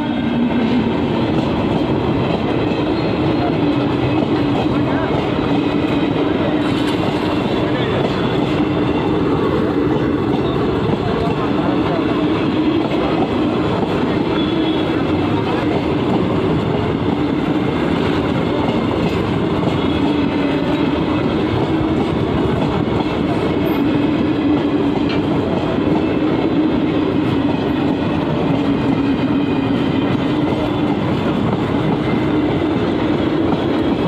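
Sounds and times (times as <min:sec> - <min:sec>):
train wheels on rails: 0:00.0 - 0:34.0.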